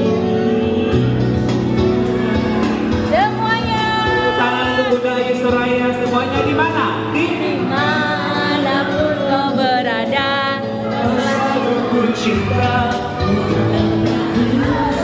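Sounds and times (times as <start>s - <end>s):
person singing into microphone: 0.0s - 1.8s, 3.1s - 15.0s
electronic keyboard: 0.0s - 15.0s.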